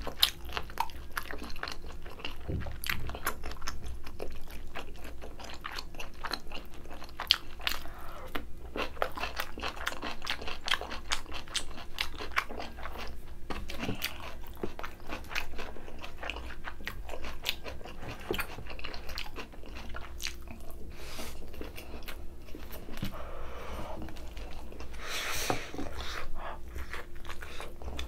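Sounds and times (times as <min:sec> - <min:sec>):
chewing and biting food: 0:00.0 - 0:23.2, 0:23.8 - 0:28.0.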